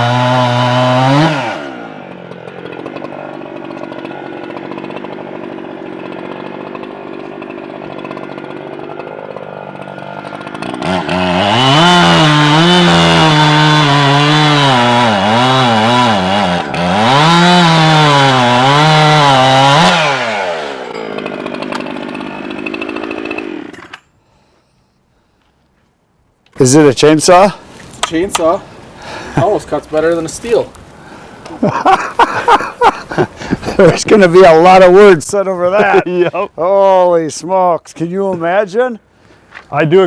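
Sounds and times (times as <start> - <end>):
chainsaw revving and cutting wood: 0.0 - 24.0, 27.4 - 36.5.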